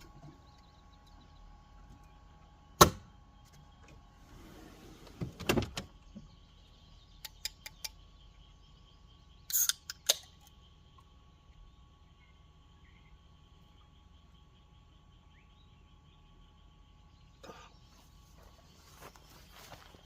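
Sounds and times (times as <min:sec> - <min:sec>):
faint insect drone: 0:00.0 - 0:20.0.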